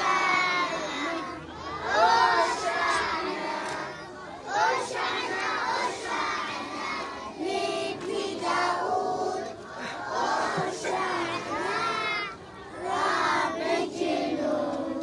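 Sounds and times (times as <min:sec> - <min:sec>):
children singing and chanting: 0:00.0 - 0:15.0
crowd voices: 0:00.0 - 0:15.0.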